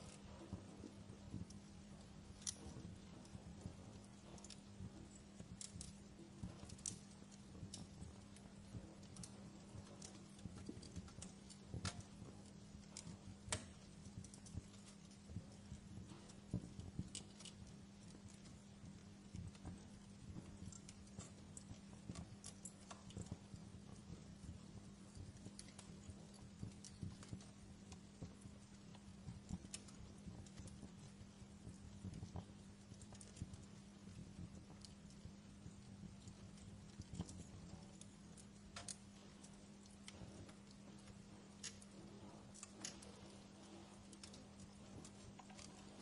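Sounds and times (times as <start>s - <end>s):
low steady hum: 0.0s - 46.0s
wood fire crackling: 0.0s - 46.0s.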